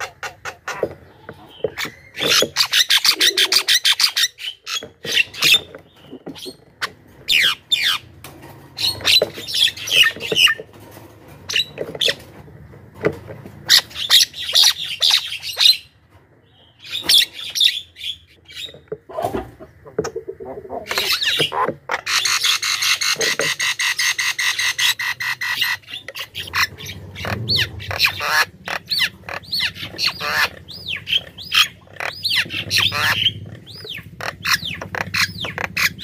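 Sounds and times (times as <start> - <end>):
bird harsh chatter and clicks: 0.0 - 12.3, 16.8 - 36.0.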